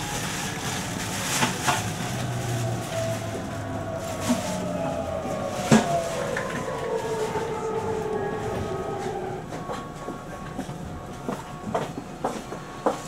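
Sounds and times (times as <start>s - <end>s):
electric train motor whine: 0.0s - 12.8s.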